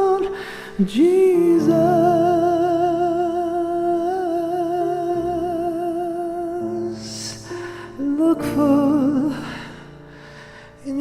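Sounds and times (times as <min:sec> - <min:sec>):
person singing a hymn: 0:00.0 - 0:11.0.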